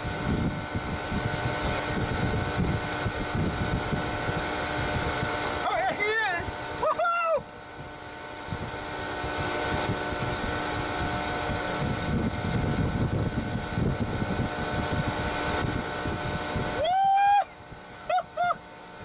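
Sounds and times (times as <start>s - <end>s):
mechanical drone with held tones: 0.0s - 19.0s.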